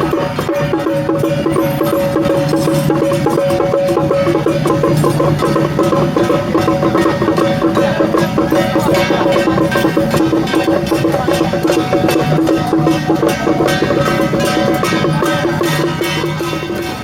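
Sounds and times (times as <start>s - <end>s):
rapid percussion beats: 0.0s - 17.0s.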